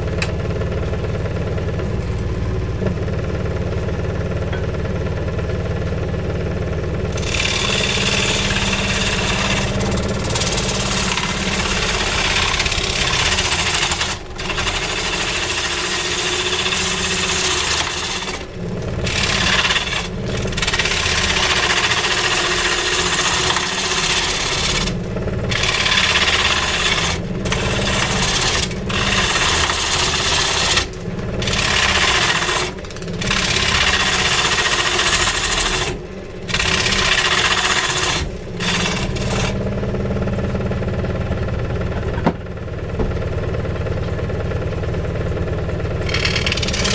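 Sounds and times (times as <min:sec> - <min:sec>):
motor hum: 0:00.0 - 0:46.9
power tool cutting wood: 0:00.0 - 0:46.9.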